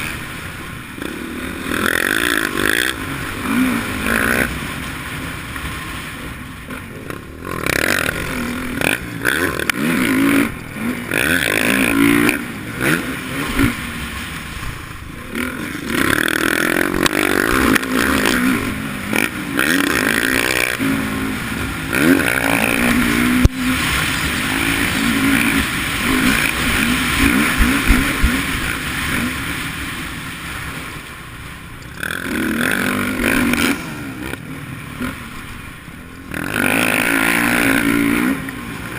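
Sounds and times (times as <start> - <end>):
dirt bike engine revving: 0.0 - 31.3, 31.9 - 38.9.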